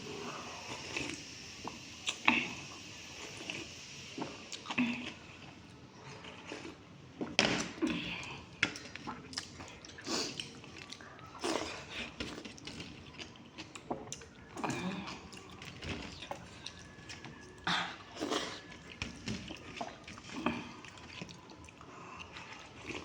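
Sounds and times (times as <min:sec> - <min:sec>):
person chewing wet food: 0:00.0 - 0:23.0.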